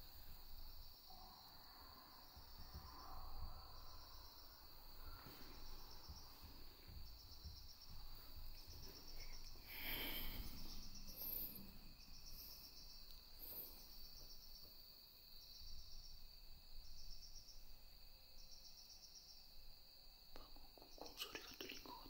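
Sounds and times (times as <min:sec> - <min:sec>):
crickets chirping: 0:00.0 - 0:22.0
high insect drone: 0:00.0 - 0:22.0.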